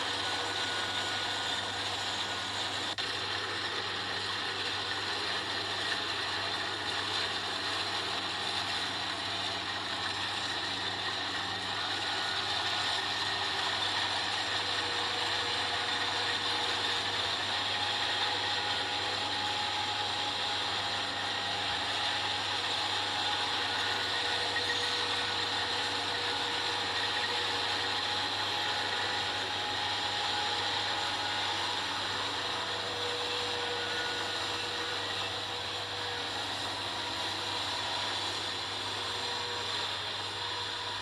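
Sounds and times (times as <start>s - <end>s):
combine harvester running: 0.0s - 41.0s.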